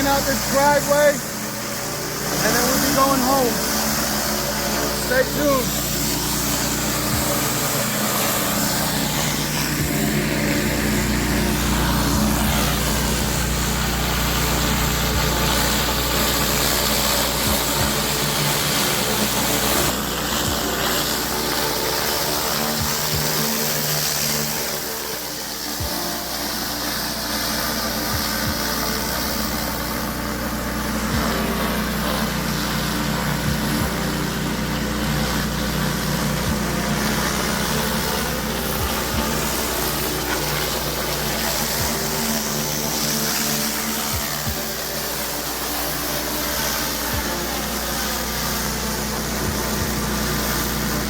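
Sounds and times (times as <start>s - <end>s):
high-pressure water spraying: 0.0s - 51.0s
pressure washer engine running: 0.0s - 51.0s.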